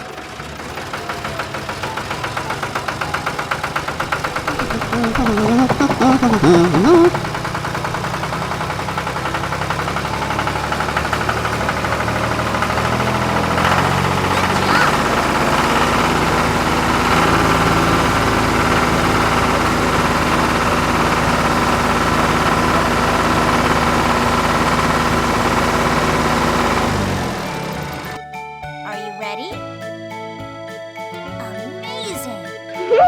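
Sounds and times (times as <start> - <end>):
cartoon vehicle engine: 0.0 - 28.2, 31.4 - 33.0.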